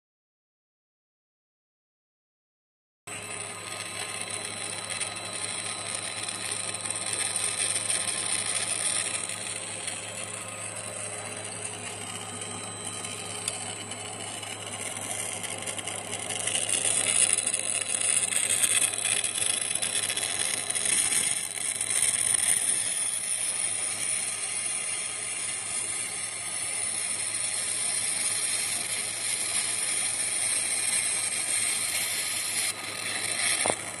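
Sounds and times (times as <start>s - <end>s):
machine humming: 3.1s - 34.0s
welding torch hiss: 3.1s - 34.0s.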